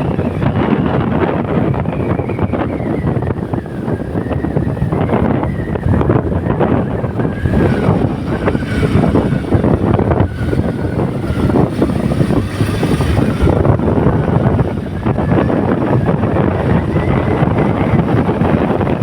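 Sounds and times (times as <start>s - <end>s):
vehicle driving on rough road: 0.0s - 19.0s
wind buffeting microphone: 0.0s - 19.0s.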